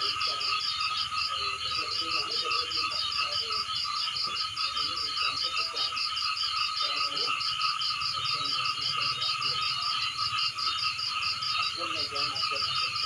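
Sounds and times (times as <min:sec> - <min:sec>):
chorus of frogs calling: 0:00.0 - 0:13.0.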